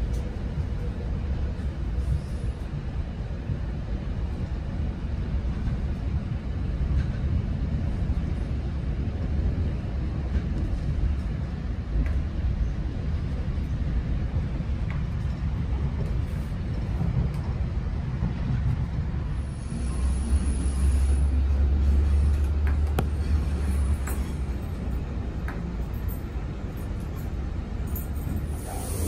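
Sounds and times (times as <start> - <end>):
train rumbling in motion: 0.0 - 29.0.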